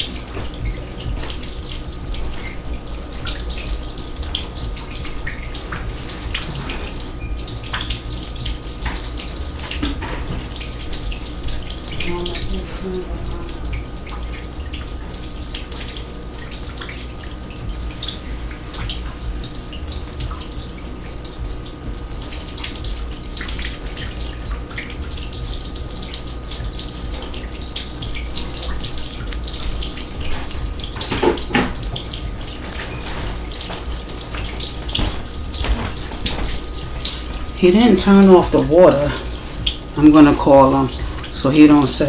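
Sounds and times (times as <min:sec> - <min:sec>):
water dripping: 0:00.0 - 0:42.0
water running and splashing: 0:00.0 - 0:42.0.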